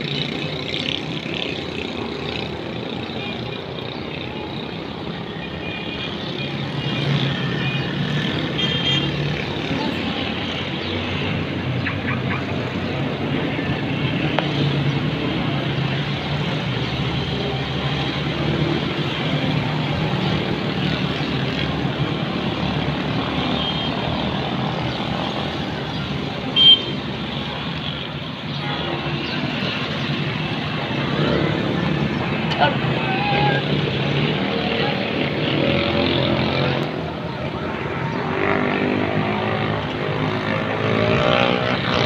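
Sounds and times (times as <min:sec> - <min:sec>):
city background rumble: 0:00.0 - 0:42.0.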